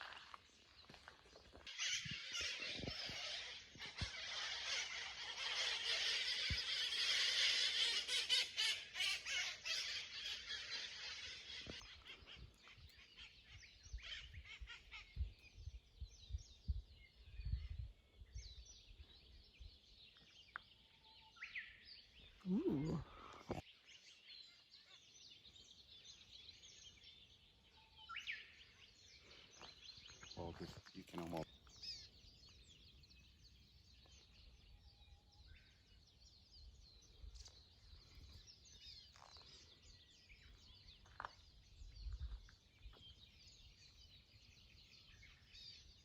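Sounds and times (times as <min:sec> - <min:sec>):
birds chirping and calling: 0:00.0 - 0:46.0.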